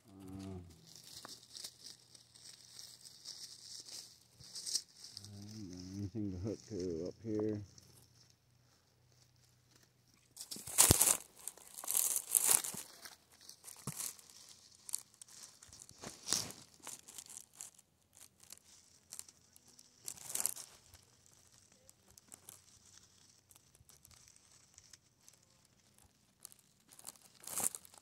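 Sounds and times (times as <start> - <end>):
faint rustling and crackling: 0.0 - 28.0.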